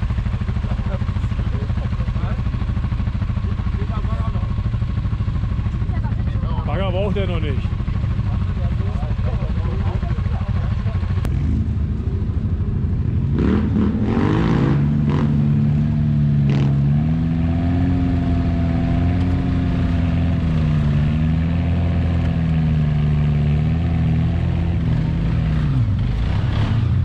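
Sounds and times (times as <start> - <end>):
quad bike engine under load: 0.0 - 27.0.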